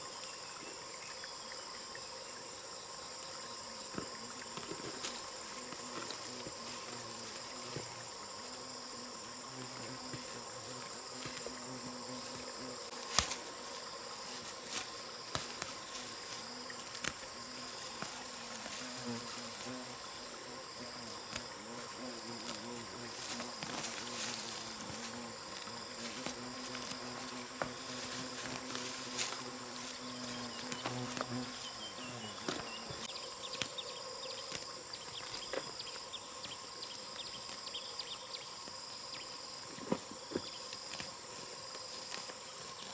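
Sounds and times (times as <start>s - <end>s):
high-pitched insect chorus: 0.0s - 42.9s
fly or bee buzzing: 1.5s - 42.9s.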